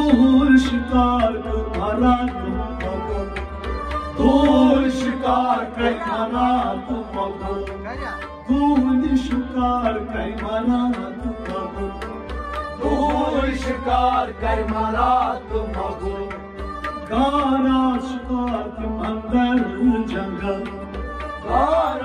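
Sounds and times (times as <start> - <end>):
hand drum rhythm: 0.0 - 22.0
harmonium: 0.0 - 22.0
male voices singing: 0.0 - 22.0.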